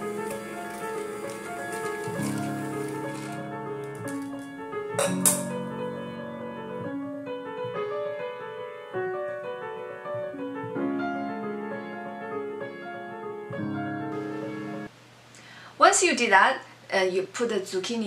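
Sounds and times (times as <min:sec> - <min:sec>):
slow piano chords: 0:00.0 - 0:14.9.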